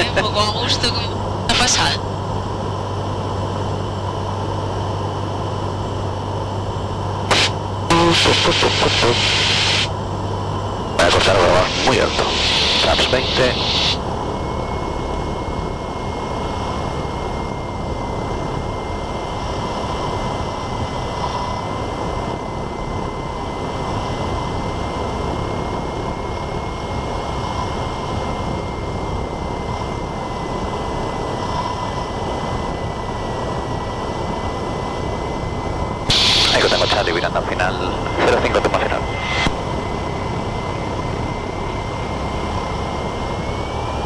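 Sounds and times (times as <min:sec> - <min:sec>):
propeller aircraft engine droning: 0:00.0 - 0:44.0.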